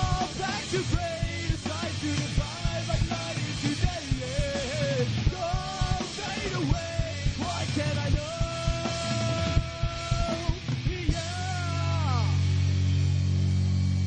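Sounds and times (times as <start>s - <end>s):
person singing lead vocal: 0.0s - 12.4s
rock band playing: 0.0s - 13.8s.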